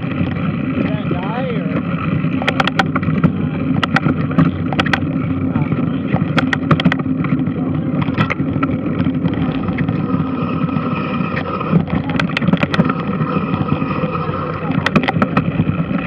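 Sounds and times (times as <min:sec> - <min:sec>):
washing machine churning water: 0:00.0 - 0:16.0
sharp clicks and knocks: 0:01.7 - 0:10.3, 0:11.3 - 0:16.0.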